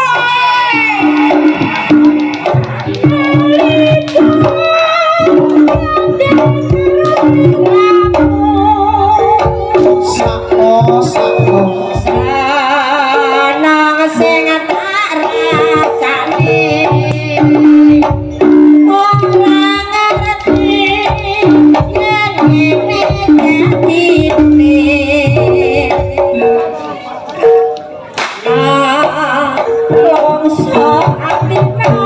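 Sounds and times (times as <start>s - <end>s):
gamelan-style tones: 0.0s - 32.0s
hand drums beating: 0.0s - 32.0s
person singing: 0.0s - 32.0s.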